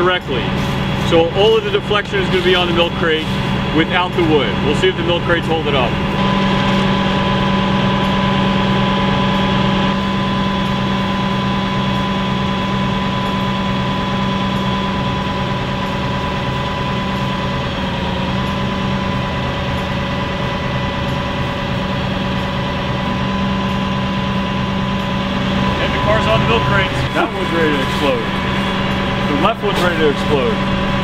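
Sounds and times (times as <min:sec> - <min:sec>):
thin steady whine: 0:00.0 - 0:31.0
truck engine idling: 0:00.0 - 0:31.0.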